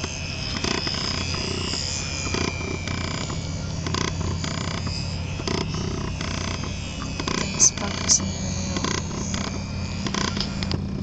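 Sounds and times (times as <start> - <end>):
low hum and rumbling: 0.0 - 11.0
rc plane electric motor whining: 0.0 - 11.0.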